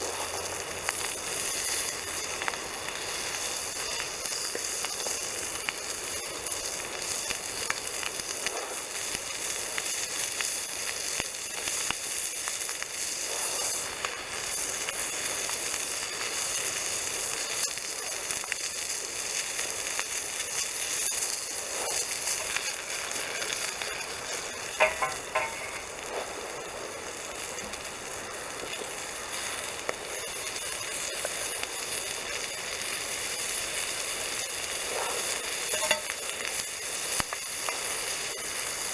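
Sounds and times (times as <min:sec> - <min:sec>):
bacon and sausages sizzling in pan: 0:00.0 - 0:38.9.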